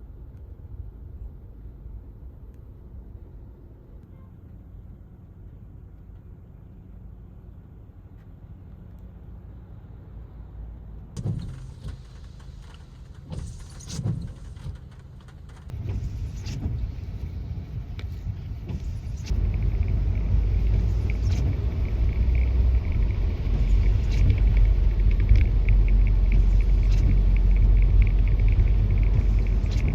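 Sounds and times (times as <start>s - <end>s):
car road noise rumble: 0.0s - 29.9s.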